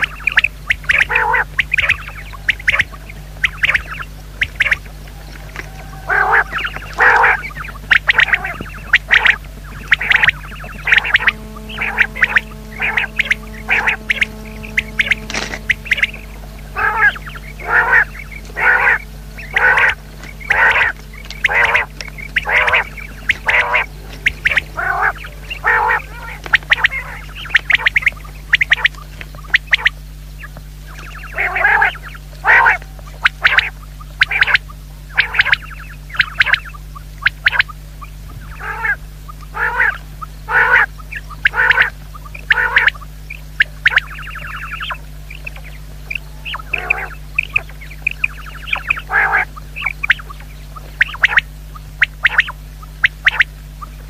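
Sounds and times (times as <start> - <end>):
quail calling: 0.0 - 54.0
steady low hum: 0.0 - 54.0.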